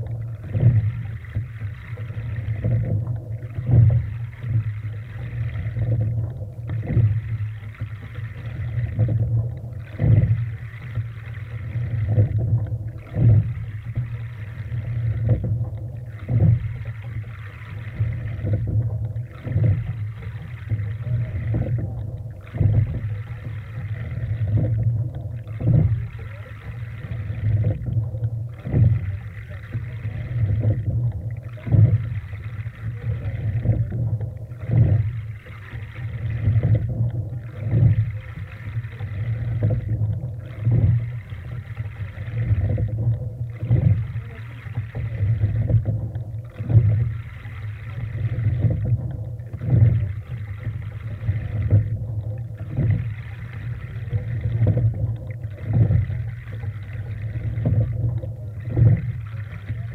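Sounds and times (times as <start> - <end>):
steady low rumble: 0.0 - 59.9
water rushing along a hull: 0.0 - 59.9.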